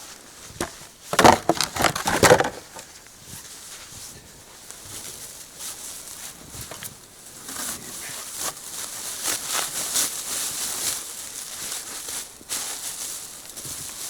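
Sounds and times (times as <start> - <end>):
footsteps crunching in snow: 2.5 - 14.0.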